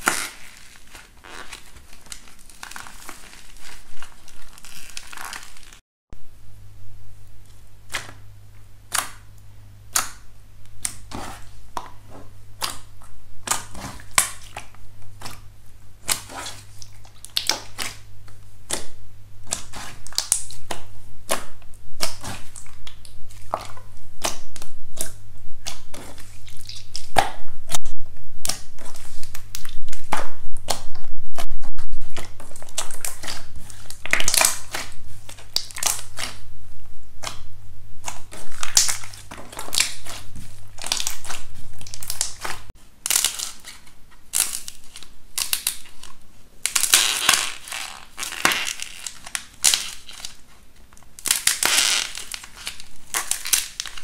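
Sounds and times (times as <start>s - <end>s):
slime crackling and popping: 0.0s - 5.8s, 12.6s - 36.5s, 37.2s - 54.0s.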